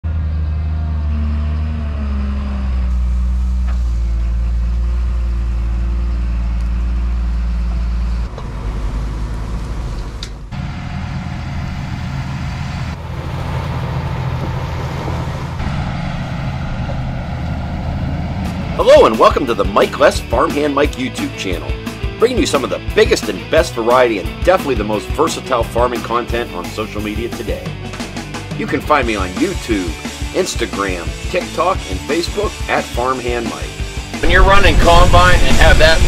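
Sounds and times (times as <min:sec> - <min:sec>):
diesel tractor engines running: 0:00.0 - 0:36.0.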